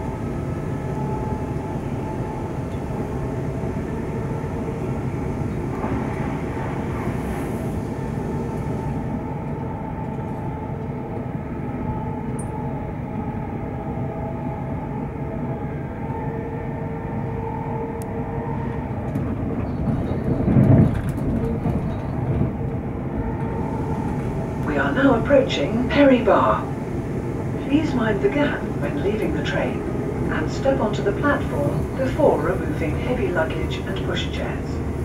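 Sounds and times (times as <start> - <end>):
train wheels rumbling on rails: 0.0 - 35.0
train whine: 0.0 - 35.0.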